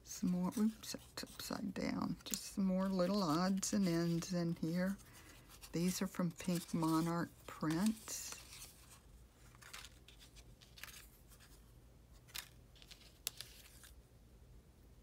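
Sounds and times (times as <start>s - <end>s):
paper rustling by hand: 0.2s - 14.0s.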